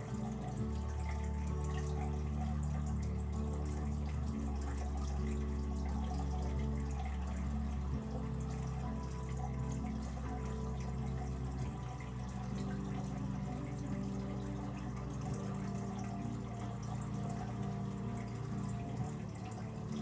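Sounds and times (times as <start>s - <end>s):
low motor hum: 0.0s - 20.0s
water trickling and splashing: 0.0s - 20.0s.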